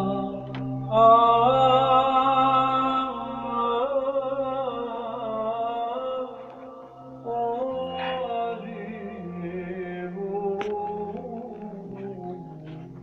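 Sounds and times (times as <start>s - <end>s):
church chant over drone: 0.0s - 13.0s.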